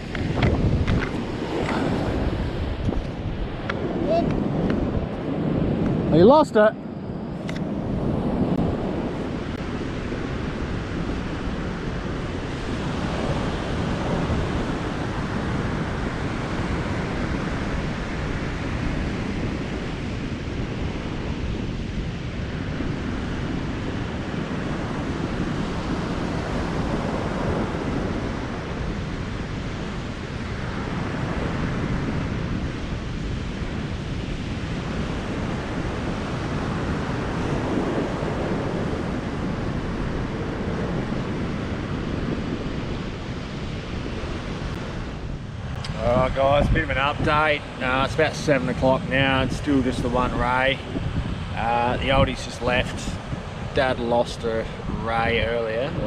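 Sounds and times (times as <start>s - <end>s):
surf breaking on beach: 0.0s - 6.7s, 7.7s - 56.0s
wind buffeting microphone: 0.0s - 56.0s.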